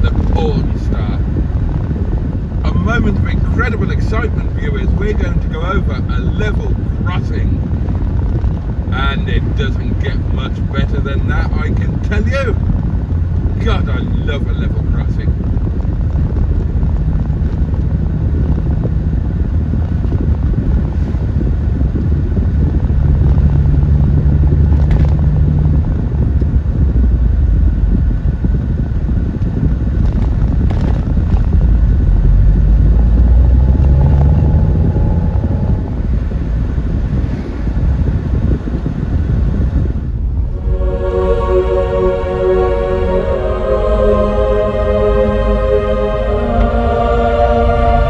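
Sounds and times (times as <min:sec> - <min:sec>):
car engine drone: 0:00.0 - 0:48.0
road rumble: 0:00.0 - 0:48.0.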